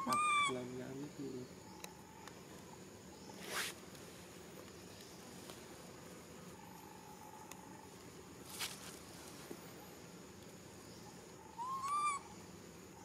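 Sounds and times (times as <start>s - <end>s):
insects humming: 0.0s - 13.0s.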